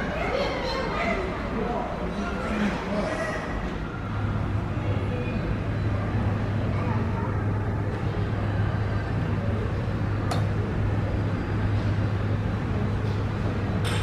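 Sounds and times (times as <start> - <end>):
low mechanical hum: 0.0 - 14.0
rushing background noise: 0.0 - 14.0.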